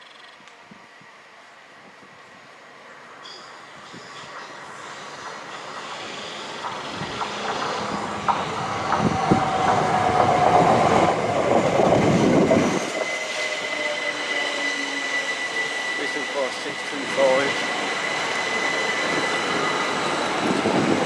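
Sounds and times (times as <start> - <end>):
electric train on rails: 0.0 - 21.0.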